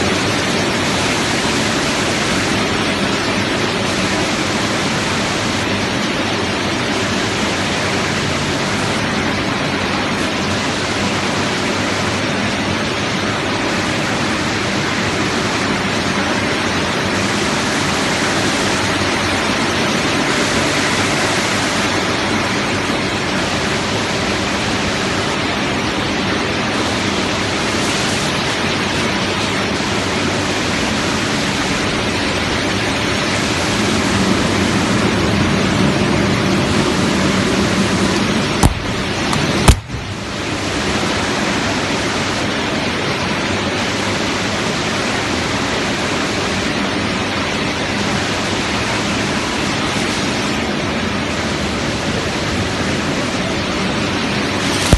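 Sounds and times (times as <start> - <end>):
fans and refrigeration machinery: 0.0 - 54.9.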